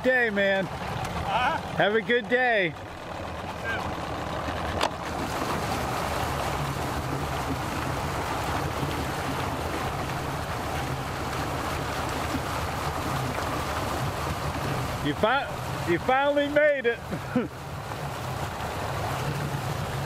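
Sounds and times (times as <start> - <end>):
outboard motor running: 0.0 - 20.0
water stirring: 0.0 - 20.0.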